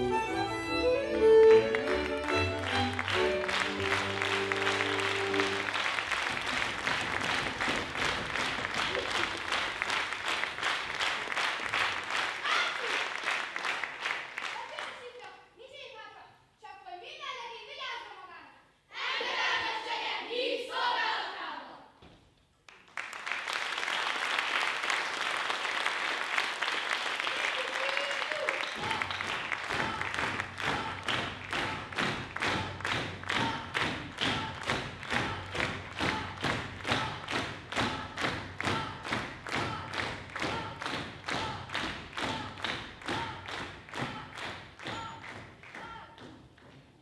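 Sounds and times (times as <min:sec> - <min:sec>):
audience applauding: 0:00.0 - 0:15.1, 0:22.7 - 0:45.8.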